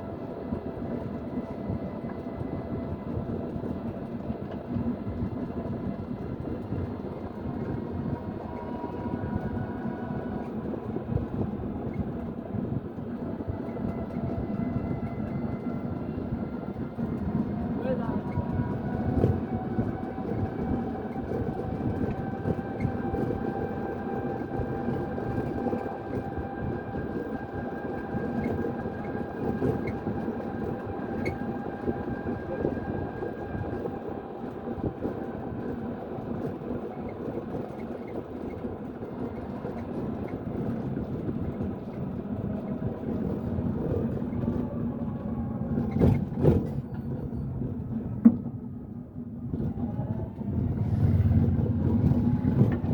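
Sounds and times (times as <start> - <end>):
moving vehicle rumble: 0.0 - 52.9.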